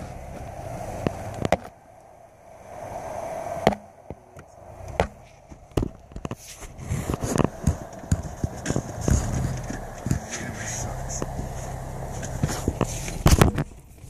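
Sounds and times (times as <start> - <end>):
car knocks and clunks: 0.0 - 1.8, 3.6 - 14.0
rush of noise: 0.0 - 13.9
low steady running noise: 0.0 - 14.0.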